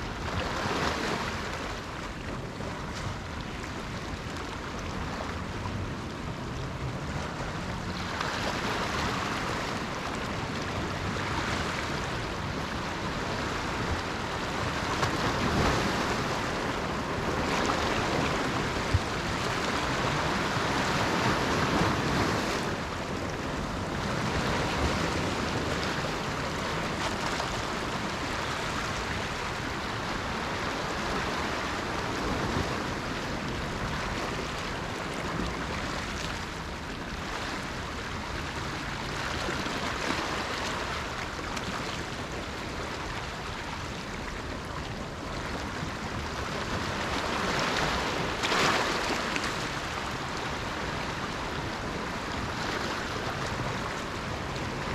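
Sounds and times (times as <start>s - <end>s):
small waves washing on shore: 0.0s - 54.9s.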